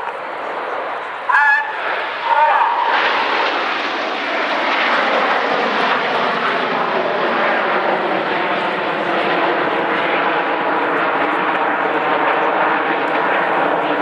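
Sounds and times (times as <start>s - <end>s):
jet aircraft flying: 0.0s - 14.0s.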